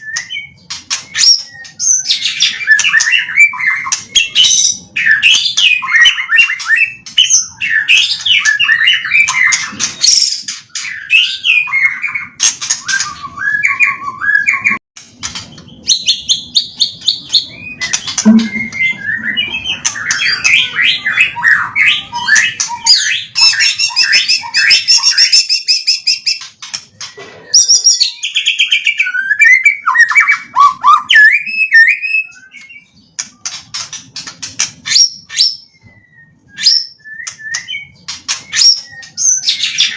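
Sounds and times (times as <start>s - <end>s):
songbird singing warbles and trills: 0.0s - 39.9s.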